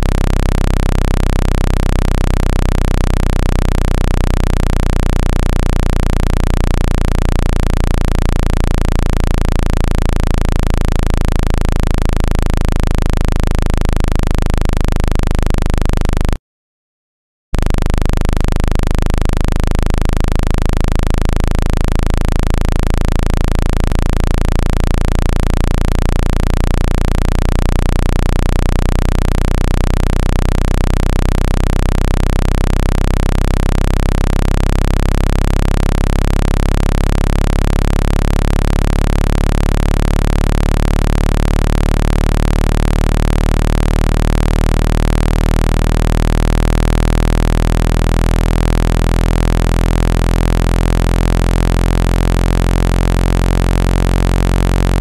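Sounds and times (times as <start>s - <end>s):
low electronic hum from phone speaker: 0.0s - 16.4s, 17.6s - 55.0s.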